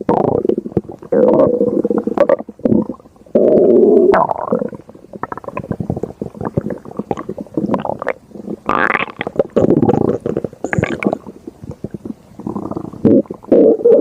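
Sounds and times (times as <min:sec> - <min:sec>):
stomach growling and gurgling: 0:00.0 - 0:14.0.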